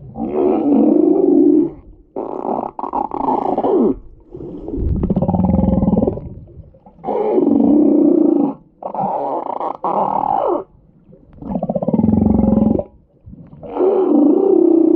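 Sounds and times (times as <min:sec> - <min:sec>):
whale calls: 0:00.0 - 0:14.9.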